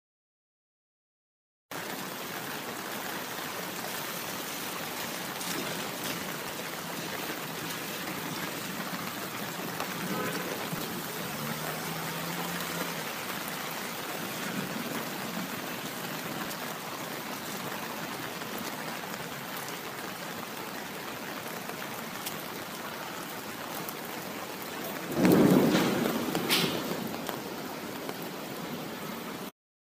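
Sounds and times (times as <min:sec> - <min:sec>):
steady rain falling: 0:01.7 - 0:29.5.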